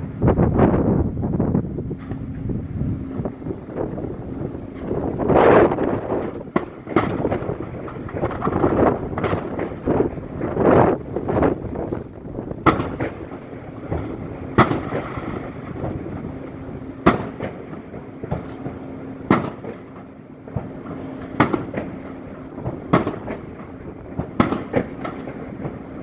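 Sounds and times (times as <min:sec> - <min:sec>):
distant fireworks bursting: 0:00.0 - 0:26.0
steady low hum: 0:00.0 - 0:26.0.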